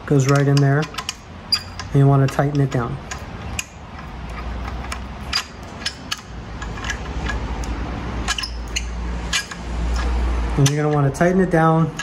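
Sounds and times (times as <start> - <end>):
small metal clicks and taps: 0.0 - 12.0.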